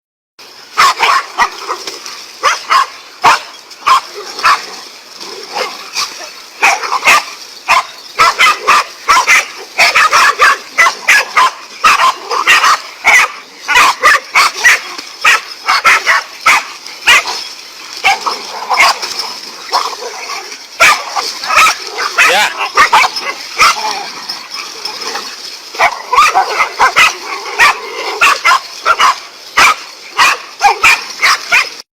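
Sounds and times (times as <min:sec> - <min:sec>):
dogs barking excitedly: 0:00.5 - 0:31.9.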